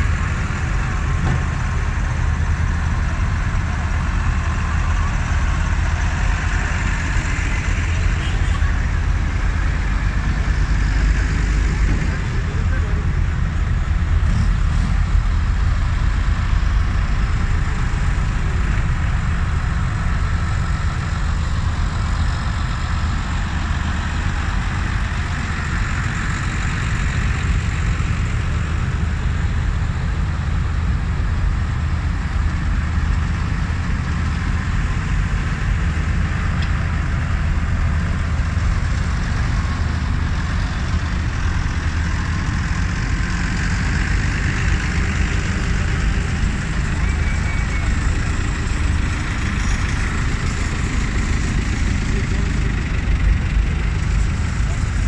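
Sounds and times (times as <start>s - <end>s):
tractor diesel engines rumbling: 0.0s - 55.0s.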